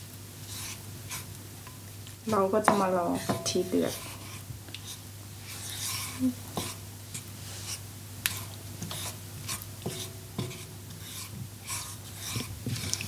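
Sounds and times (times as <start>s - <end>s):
wooden spatula scraping a wok: 0.4s - 13.0s.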